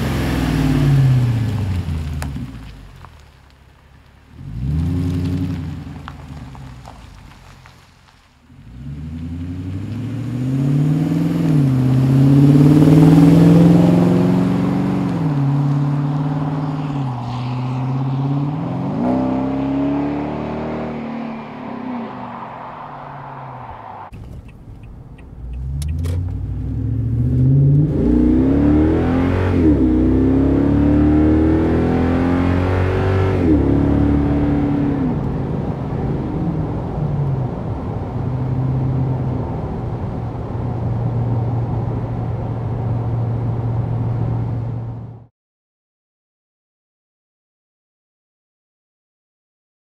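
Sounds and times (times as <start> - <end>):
truck engine accelerating: 0.0 - 3.2, 4.3 - 7.8, 8.5 - 45.3.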